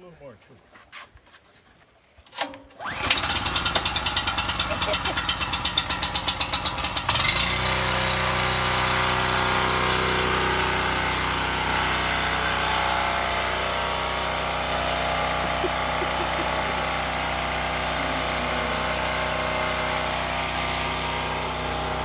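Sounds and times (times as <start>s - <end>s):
generator engine cranking and running: 2.3s - 22.0s.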